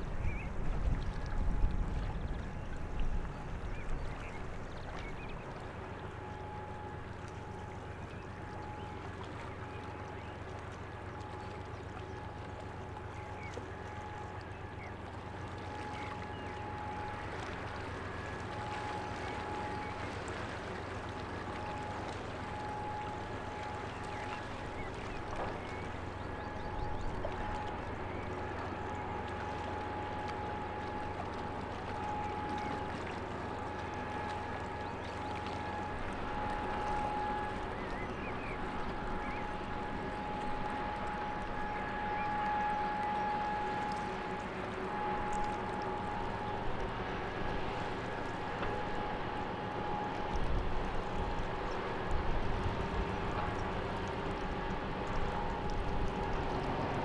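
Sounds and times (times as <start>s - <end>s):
ship machinery hum: 0.0s - 57.0s
thin constant whine: 0.0s - 57.0s.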